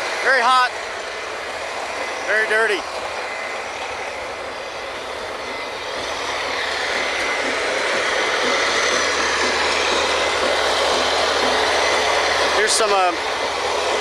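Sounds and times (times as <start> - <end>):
drilling rig machinery drone: 0.0 - 14.0.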